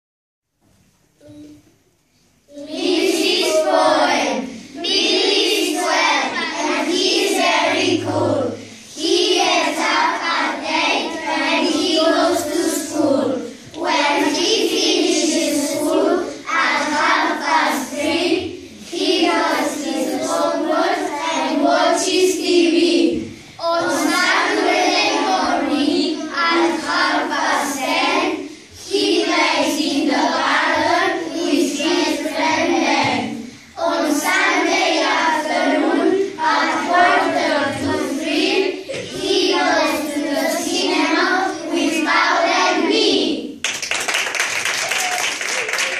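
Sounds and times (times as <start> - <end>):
children singing in unison: 2.5 - 43.5.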